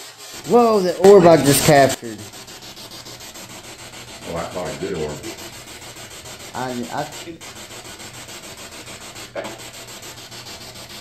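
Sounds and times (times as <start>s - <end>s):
rasping hiss: 0.0s - 11.0s.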